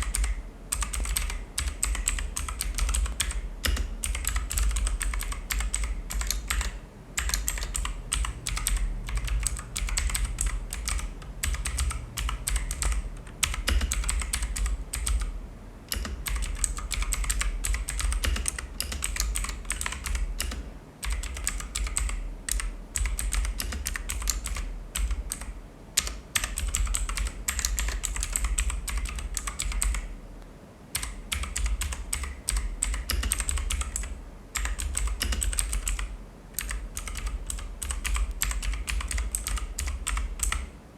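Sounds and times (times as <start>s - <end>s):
typing on a clicky keyboard: 0.0s - 15.3s, 15.9s - 30.1s, 31.0s - 40.7s.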